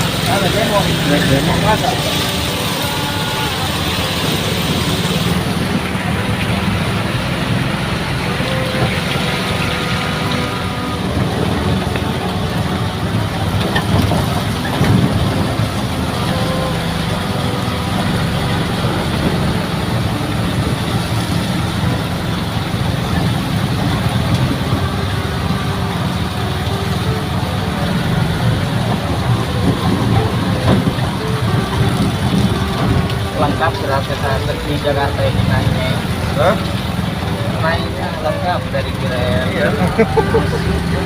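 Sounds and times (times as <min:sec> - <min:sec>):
minibus engine droning: 0:00.0 - 0:41.0.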